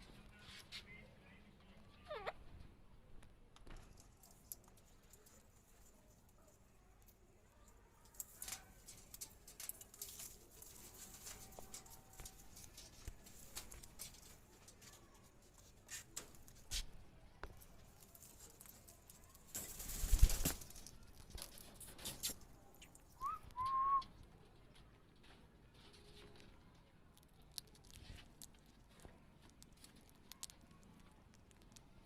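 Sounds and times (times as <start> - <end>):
clicks and scratches: 3.6 - 23.4, 24.5 - 32.0.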